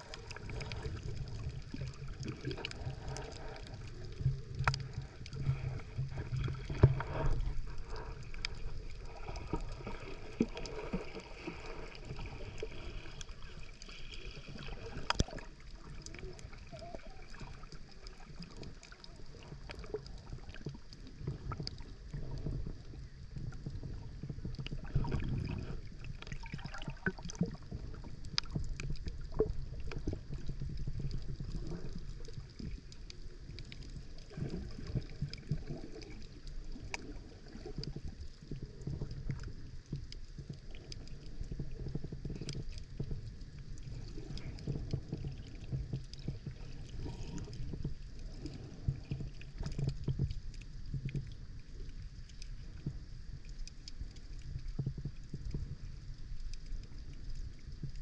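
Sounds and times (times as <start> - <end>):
sharp clicks underwater: 0.0 - 12.3, 13.0 - 58.0
underwater rumble and gurgling: 0.0 - 58.0.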